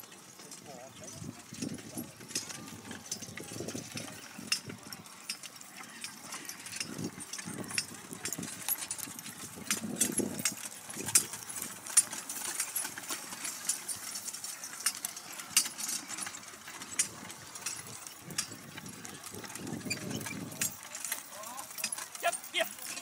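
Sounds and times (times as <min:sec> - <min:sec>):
hooves and harness rattling: 0:00.0 - 0:23.0
horses trotting: 0:00.0 - 0:23.0.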